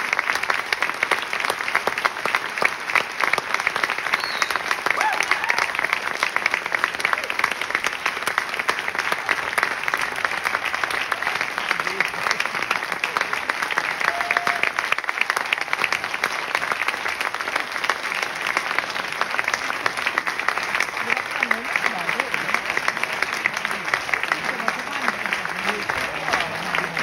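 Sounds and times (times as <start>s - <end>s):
audience applauding: 0.0s - 27.0s.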